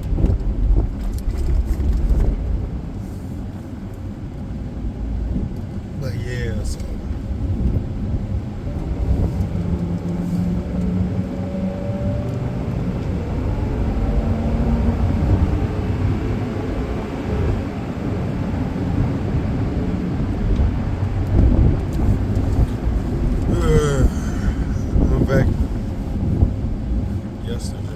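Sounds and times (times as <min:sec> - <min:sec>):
car engine and road rumble: 0:00.0 - 0:27.9.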